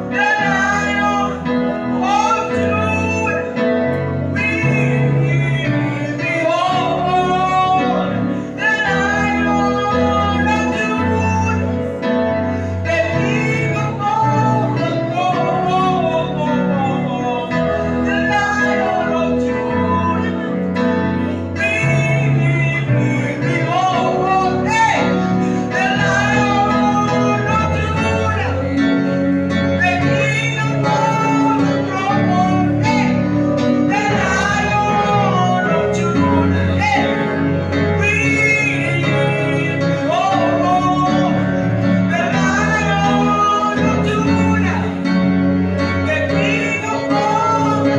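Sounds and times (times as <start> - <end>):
instrumental accompaniment: 0.0 - 47.9
voices singing worship song: 0.0 - 47.9.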